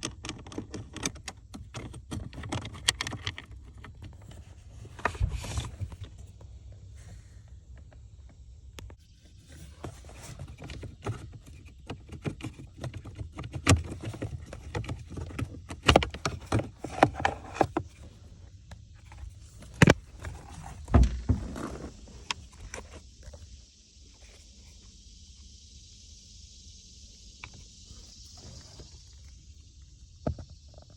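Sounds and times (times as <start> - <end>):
faint steady hiss: 2.7 - 30.9.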